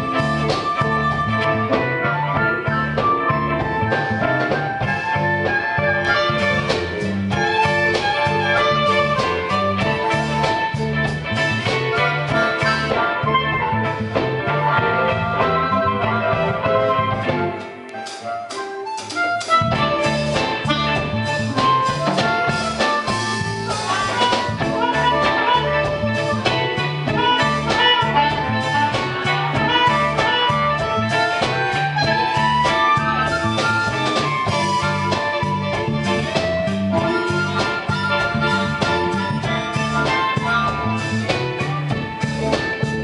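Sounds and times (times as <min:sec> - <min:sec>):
amplified harmonica: 0:00.0 - 0:43.0
live blues band playing: 0:00.0 - 0:43.0.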